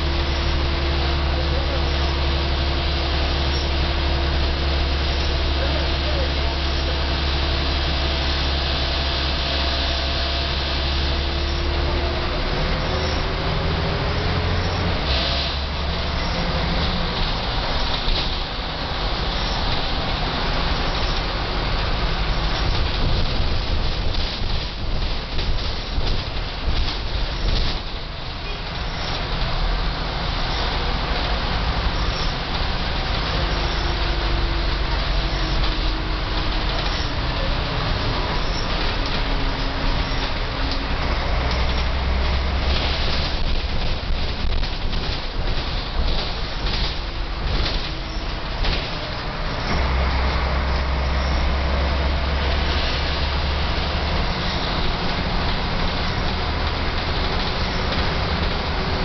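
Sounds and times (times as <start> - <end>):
bus diesel engine under load: 0.0 - 59.0
road noise: 0.0 - 59.0.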